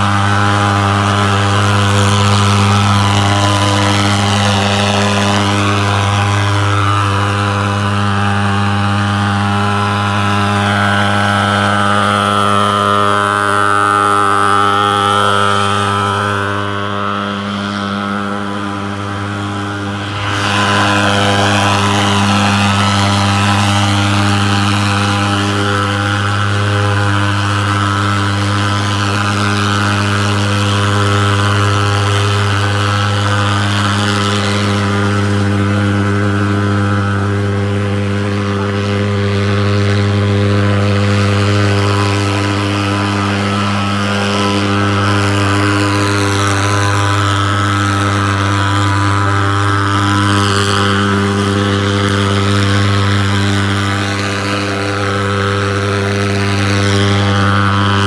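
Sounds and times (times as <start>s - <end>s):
pulse-jet engine buzzing drone: 0.0s - 58.0s.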